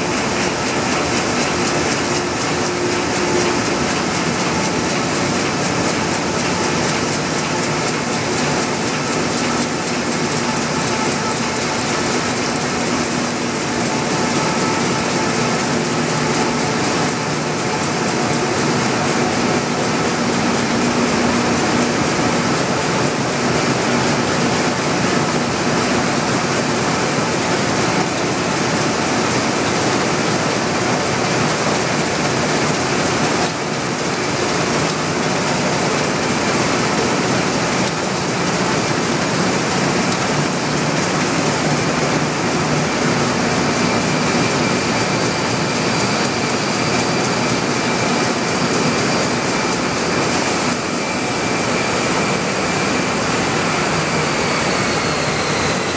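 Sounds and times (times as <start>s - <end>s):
printing press clattering: 0.0s - 55.9s.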